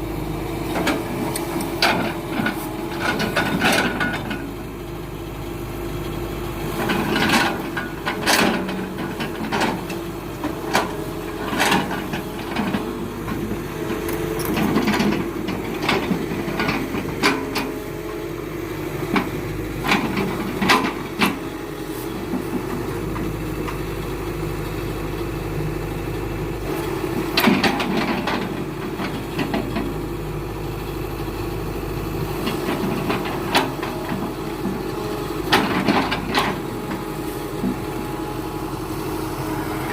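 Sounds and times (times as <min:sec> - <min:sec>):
diesel machine running: 0:00.0 - 0:39.9.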